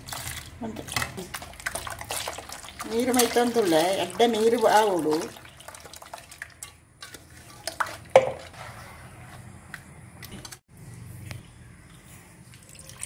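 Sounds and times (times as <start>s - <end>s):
hand squishing batter in pot: 0.0s - 10.5s.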